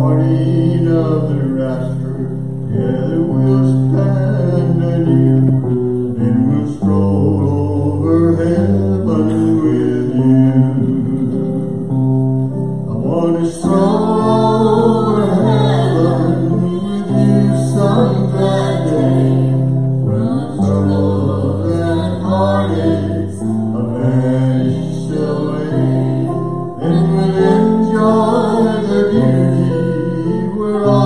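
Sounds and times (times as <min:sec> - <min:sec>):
electric and acoustic guitars: 0:00.0 - 0:31.0
held low notes: 0:00.0 - 0:31.0
person singing: 0:00.0 - 0:31.0.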